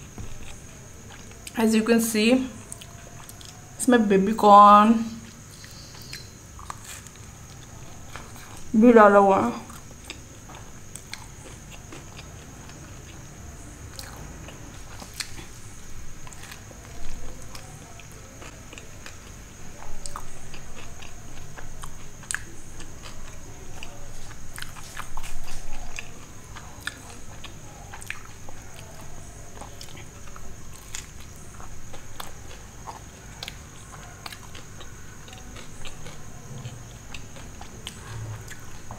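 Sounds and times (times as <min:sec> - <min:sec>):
chewing with wet mouth smacks: 0:02.6 - 0:03.6, 0:05.2 - 0:08.7, 0:09.7 - 0:15.6, 0:16.2 - 0:38.9.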